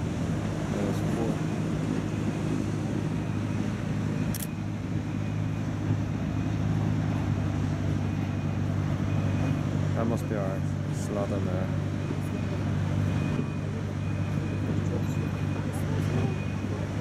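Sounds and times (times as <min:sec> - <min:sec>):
ship machinery humming: 0:00.0 - 0:17.0.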